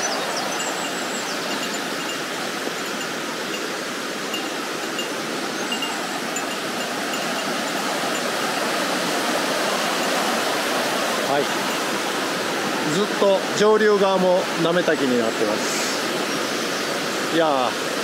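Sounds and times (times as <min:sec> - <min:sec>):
water rushing over bedrock: 0:00.0 - 0:18.0.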